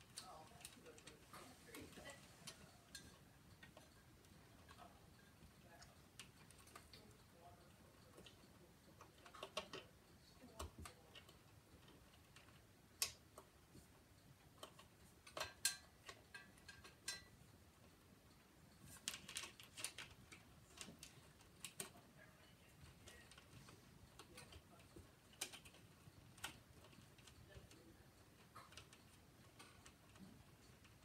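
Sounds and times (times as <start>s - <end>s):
small parts clicking and clinking: 0.0s - 31.0s.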